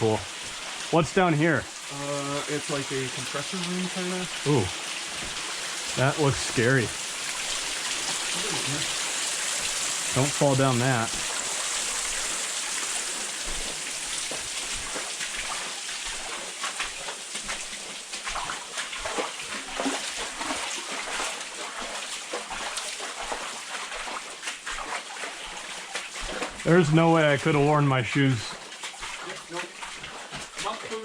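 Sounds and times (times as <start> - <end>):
boots splashing through water: 0.0 - 31.0
dripping or running water: 0.0 - 31.0.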